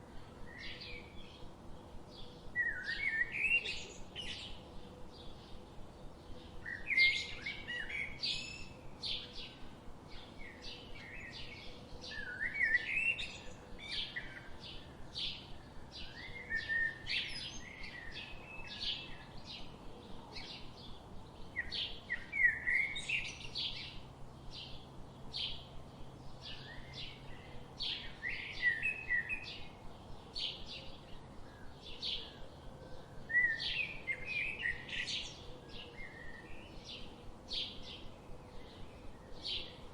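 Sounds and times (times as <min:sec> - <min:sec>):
birds chirping and singing: 0:06.4 - 0:39.9.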